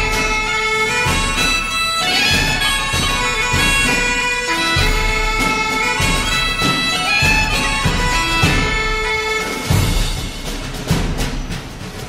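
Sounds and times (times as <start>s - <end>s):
wind instrument melody: 0.0s - 11.0s.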